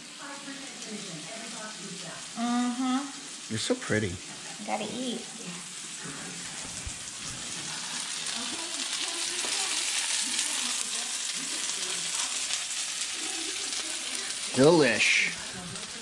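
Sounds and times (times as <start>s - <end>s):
cutlets sizzling in hot oil: 0.0s - 16.0s.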